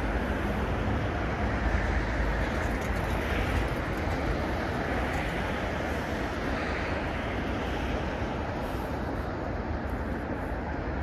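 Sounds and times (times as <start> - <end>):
busy road traffic: 0.0 - 11.0.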